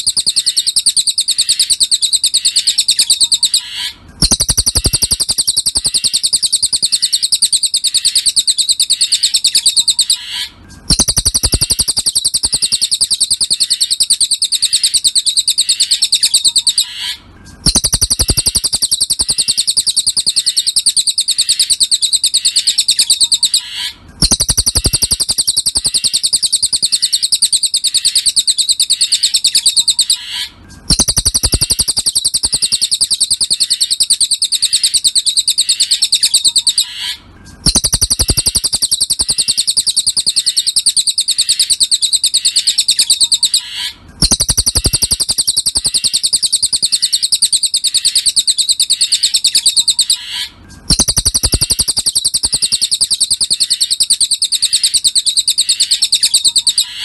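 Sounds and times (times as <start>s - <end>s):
bird singing high-pitched trill: 0.0s - 57.0s.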